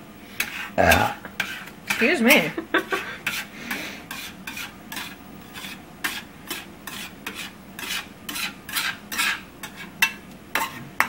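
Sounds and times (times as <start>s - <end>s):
fork scraping frying pan: 0.4s - 11.0s.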